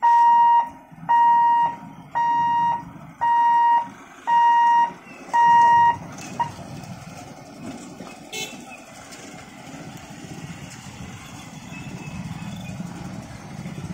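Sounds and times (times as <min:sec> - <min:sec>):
low mechanical rumble: 0:00.0 - 0:13.9.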